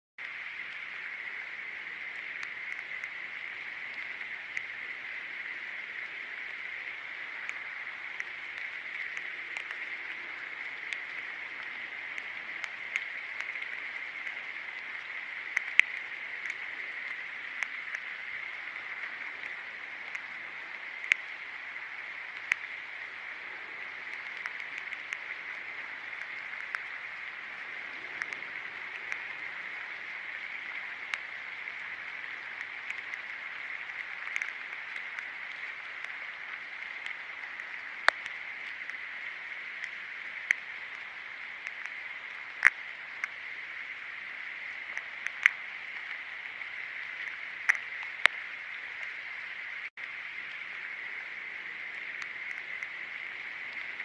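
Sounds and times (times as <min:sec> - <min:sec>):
steady hiss: 0:00.2 - 0:54.0.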